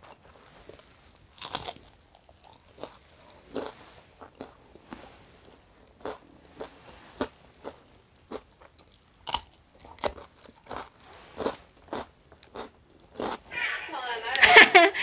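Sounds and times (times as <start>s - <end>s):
person crunching cucumber: 0.0s - 5.1s, 5.9s - 13.4s.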